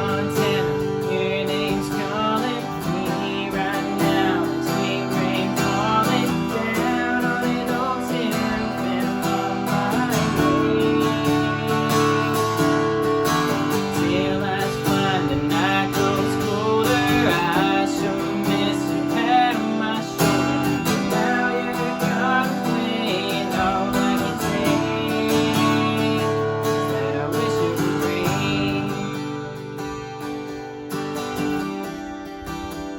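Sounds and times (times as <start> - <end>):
acoustic guitar strumming: 0.0 - 32.9
person singing country song: 0.0 - 32.9.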